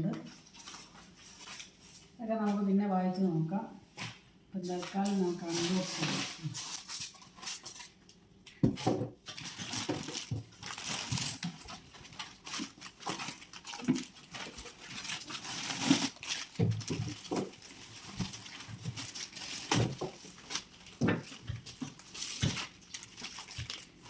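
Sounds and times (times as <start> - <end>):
plastic wrap and cardboard crinkling: 0.2 - 2.2, 4.6 - 8.1, 8.7 - 24.0.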